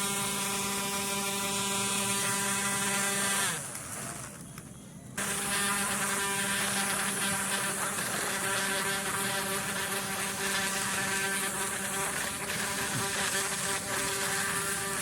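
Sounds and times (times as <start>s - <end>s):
small electric motor buzzing: 0.0s - 4.3s, 5.2s - 15.0s.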